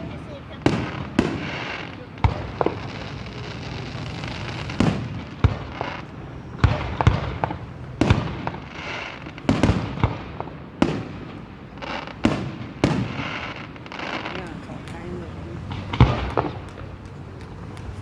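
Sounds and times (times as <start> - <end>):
firework shells bursting: 0.0 - 18.0.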